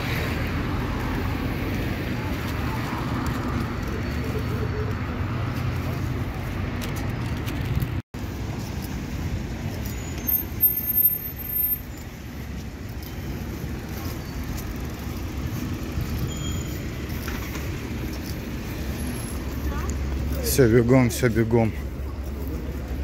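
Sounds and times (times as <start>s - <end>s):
rumble of passing cars: 0.0s - 23.0s.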